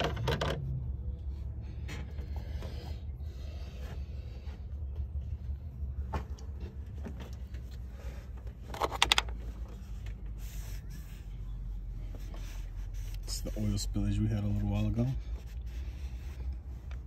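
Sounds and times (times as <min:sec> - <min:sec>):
steady low rumble: 0:00.7 - 0:17.0.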